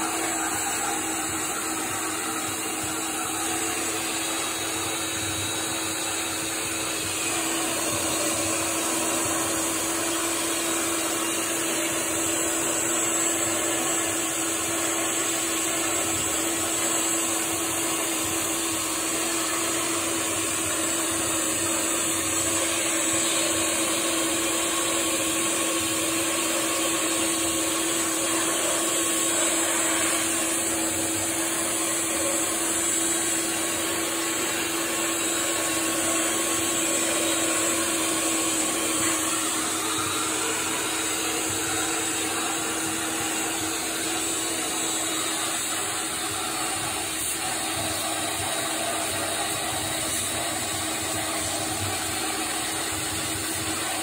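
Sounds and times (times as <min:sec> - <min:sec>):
vacuum motor humming: 0:00.0 - 0:54.0.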